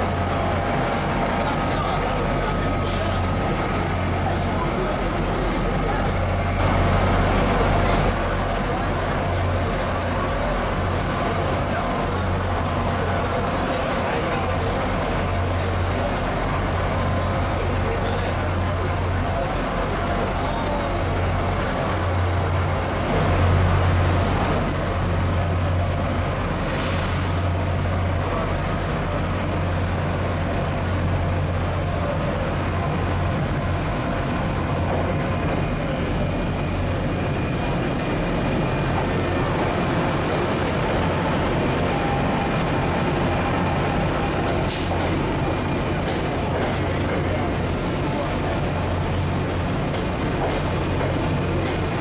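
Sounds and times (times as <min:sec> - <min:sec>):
diesel locomotive idling: 0:00.0 - 0:52.0
train wheels on rails: 0:00.0 - 0:52.0.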